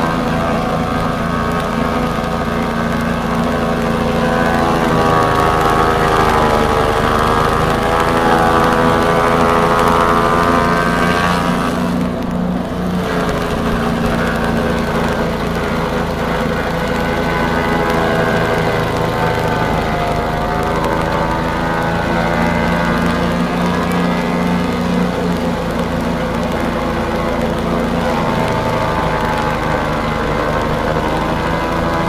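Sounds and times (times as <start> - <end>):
grass chopper engine running: 0.0 - 32.0.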